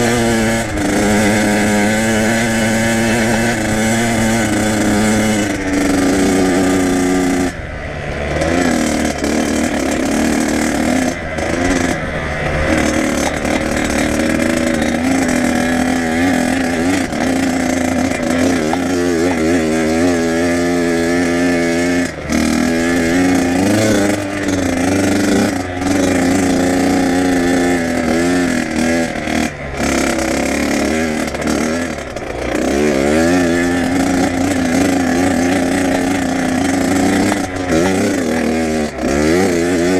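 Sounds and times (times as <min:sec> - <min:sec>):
two-stroke dirt bike engine revving: 0:00.0 - 0:39.9.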